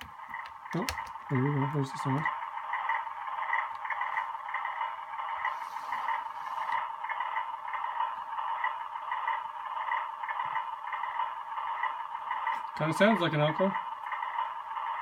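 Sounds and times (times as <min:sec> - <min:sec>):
diesel engine idling through small speaker: 0:00.1 - 0:15.0.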